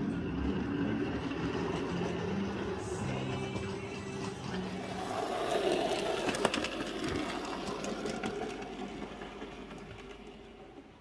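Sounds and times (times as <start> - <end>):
wheels clicking over rail joints: 0.0 - 11.0
model train motor whir: 1.6 - 10.8.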